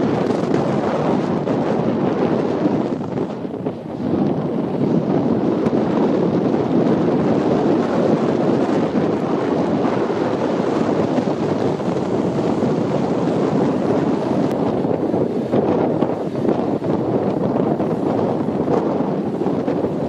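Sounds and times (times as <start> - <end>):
road noise: 0.0 - 20.0
wind on microphone: 0.0 - 20.0.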